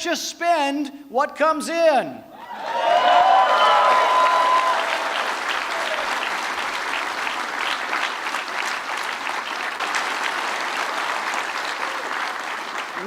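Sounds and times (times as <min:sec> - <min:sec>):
audience applauding: 0:02.5 - 0:13.0.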